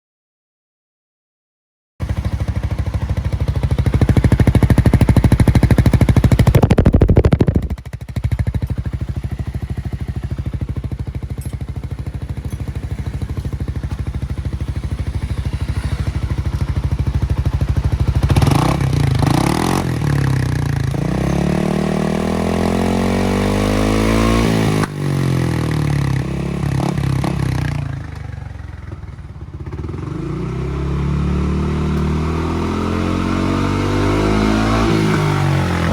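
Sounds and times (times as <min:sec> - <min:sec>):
scooter engine revving: 0:02.0 - 0:35.9.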